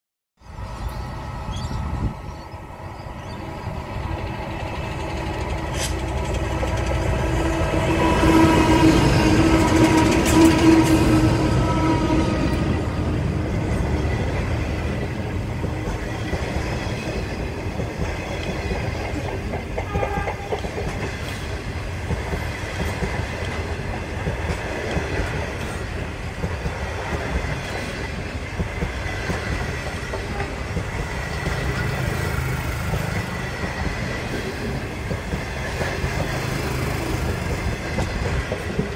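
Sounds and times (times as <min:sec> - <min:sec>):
locomotive engine: 0:00.4 - 0:38.9
train carriages rumbling: 0:00.4 - 0:38.9.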